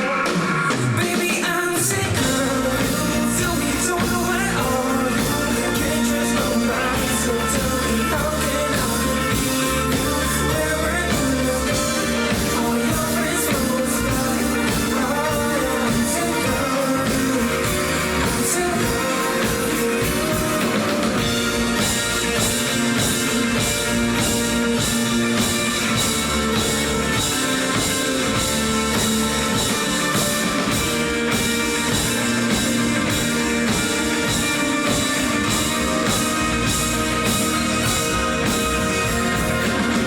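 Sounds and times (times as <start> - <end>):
live rock band instrumental: 0.0 - 40.0.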